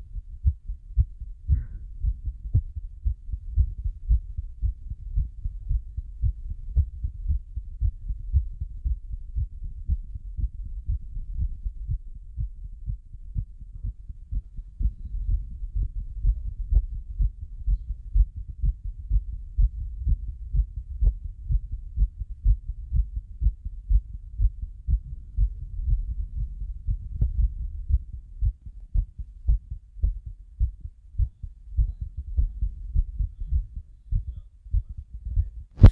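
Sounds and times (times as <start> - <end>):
heartbeat thumps: 0.0 - 35.9.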